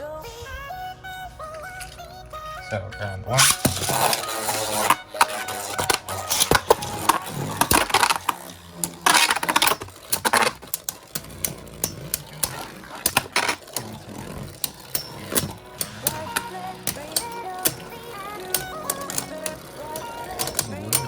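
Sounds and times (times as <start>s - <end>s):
spinning tops scraping: 3.3s - 21.0s.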